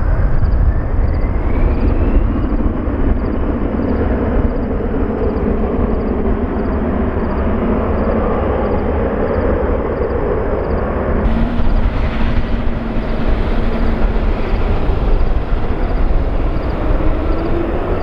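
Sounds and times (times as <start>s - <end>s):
faint jet whine rising in pitch: 0.0s - 18.0s
jet engines rumbling at low power: 0.0s - 18.0s.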